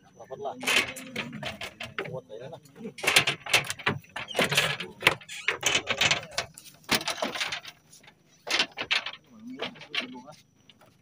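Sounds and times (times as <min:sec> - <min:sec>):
clattering on wooden boat deck: 0:00.6 - 0:02.2, 0:03.0 - 0:11.0.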